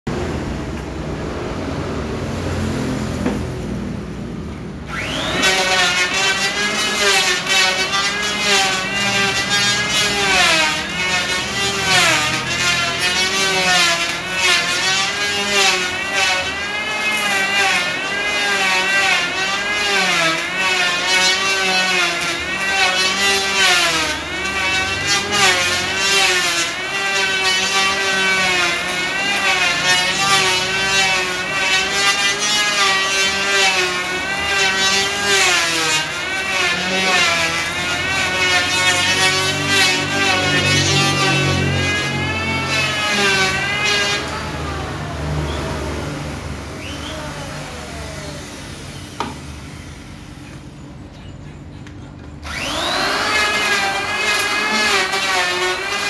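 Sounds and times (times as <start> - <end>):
electric power planer whine: 4.8 - 56.0.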